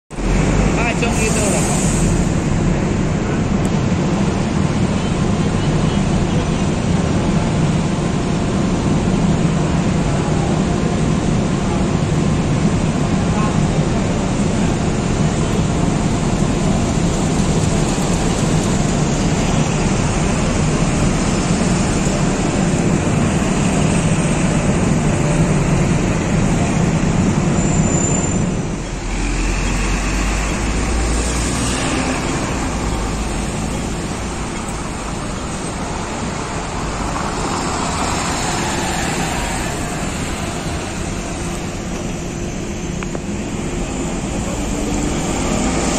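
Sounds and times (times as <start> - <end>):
bus driving off: 0.1 - 45.9
passing traffic: 0.1 - 45.9
bus diesel engine droning: 0.2 - 45.9.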